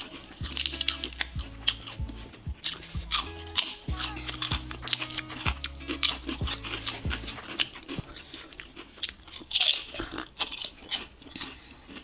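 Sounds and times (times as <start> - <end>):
crunching toasted bread: 0.0 - 12.0.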